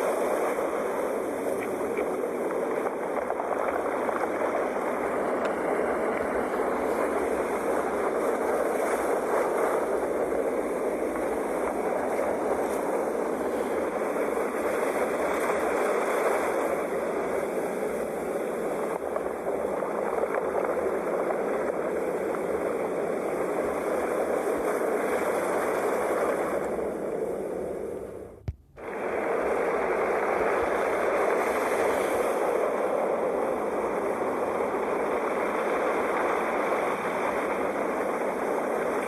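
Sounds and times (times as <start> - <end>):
sea waves washing: 0.0 - 39.0.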